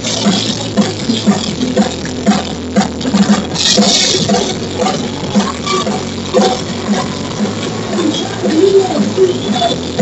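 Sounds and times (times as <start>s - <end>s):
live rock band playing: 0.0s - 10.0s
loud distorted bass: 0.0s - 10.0s.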